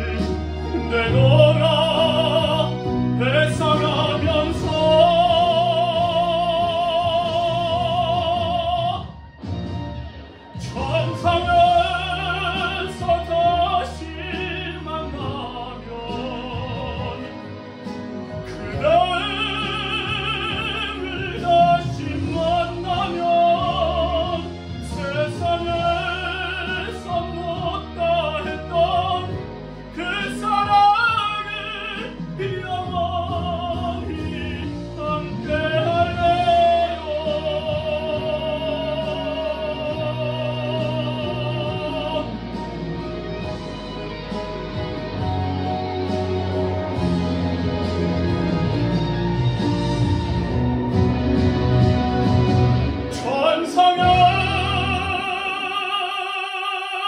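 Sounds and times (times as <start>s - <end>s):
man singing operatic ballad: 0.0s - 9.6s, 10.4s - 51.2s, 52.4s - 57.0s
instrumental accompaniment: 0.0s - 57.0s.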